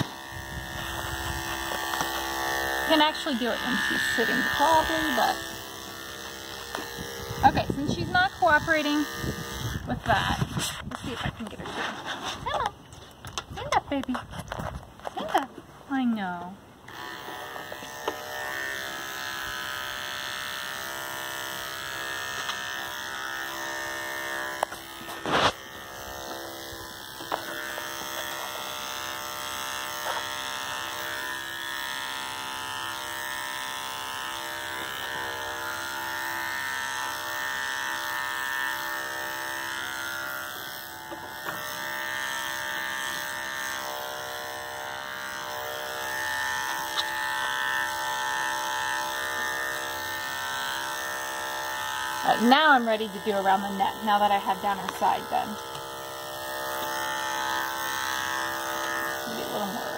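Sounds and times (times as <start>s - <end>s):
electric clippers buzzing: 0.0s - 59.9s.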